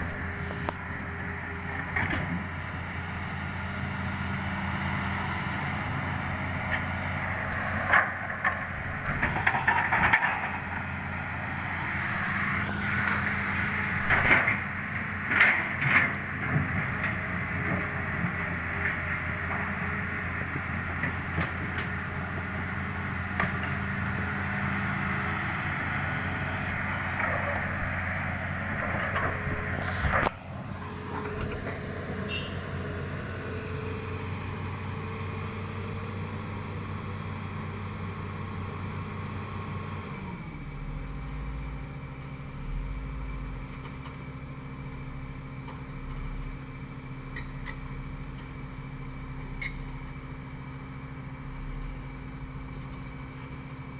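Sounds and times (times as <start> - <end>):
heavy machine engine running: 0.0 - 53.9.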